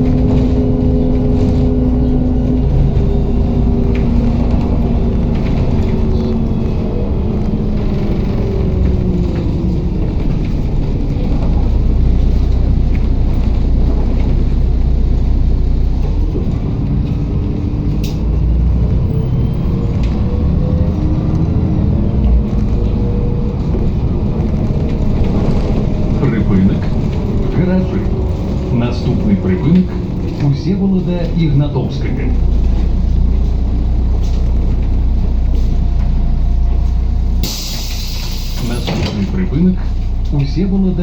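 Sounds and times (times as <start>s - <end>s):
bus engine and road rumble: 0.0s - 41.0s.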